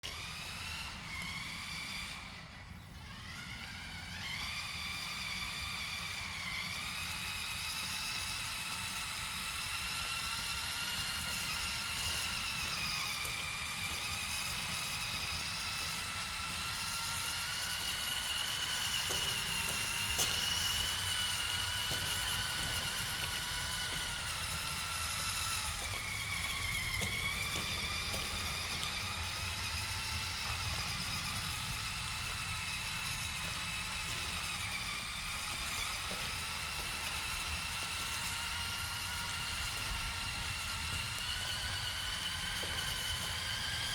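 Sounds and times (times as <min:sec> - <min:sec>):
toy car motor whining: 0:00.0 - 0:43.9.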